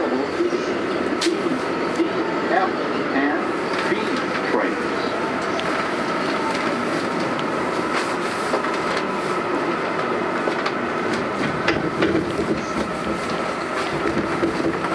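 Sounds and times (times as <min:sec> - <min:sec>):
subway wheels rumbling on rail: 0:00.0 - 0:14.9.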